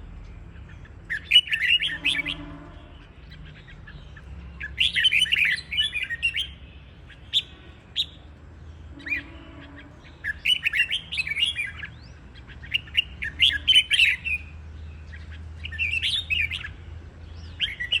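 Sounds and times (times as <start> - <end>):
bulbuls singing: 0.0 - 18.0.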